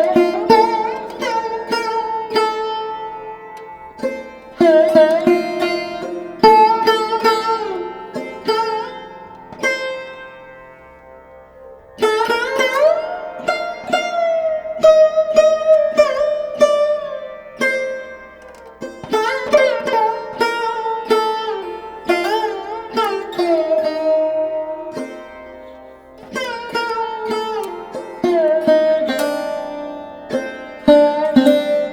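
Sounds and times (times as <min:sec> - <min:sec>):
plucked string instrument melody: 0:00.0 - 0:31.9.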